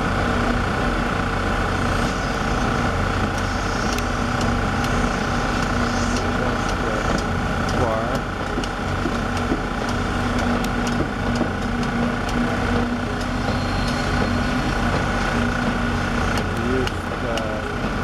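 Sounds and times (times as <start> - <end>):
concrete pump engine running: 0.0 - 18.0
concrete vibrators humming: 0.0 - 18.0.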